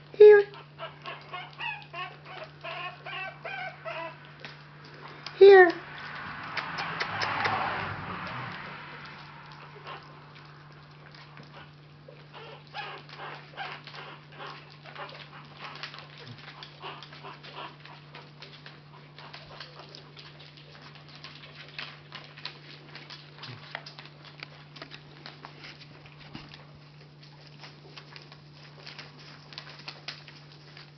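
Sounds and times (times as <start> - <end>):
puppy whines: 0.0 - 5.8, 9.0 - 30.9
puppies smacking and chewing: 0.0 - 30.9.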